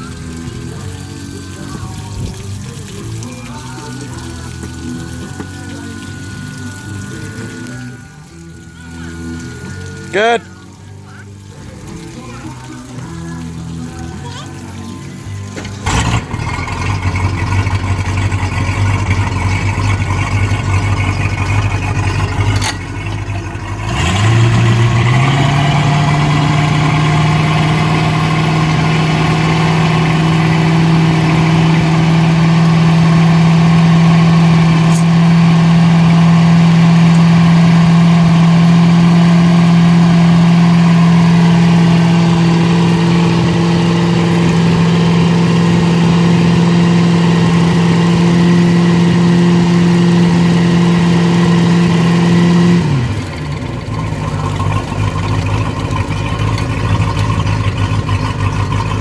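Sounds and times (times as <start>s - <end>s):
boat engine idling and revving: 0.0s - 59.0s.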